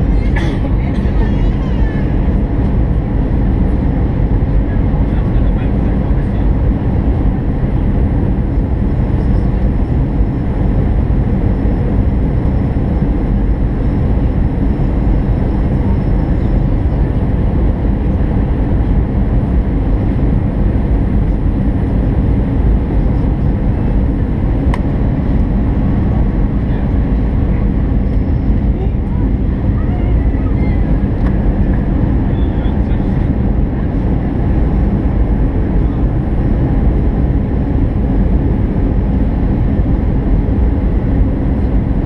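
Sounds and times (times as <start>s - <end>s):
jet engine and rushing airflow: 0.0s - 42.0s.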